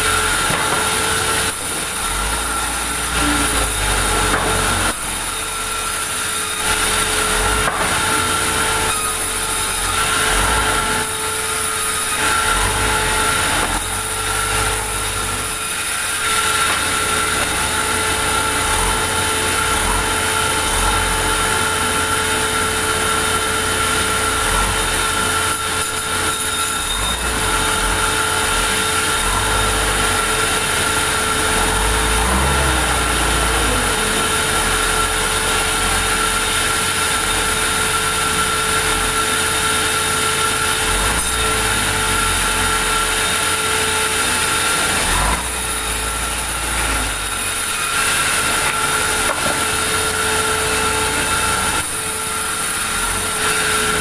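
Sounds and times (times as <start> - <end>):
band saw whining: 0.0 - 54.0.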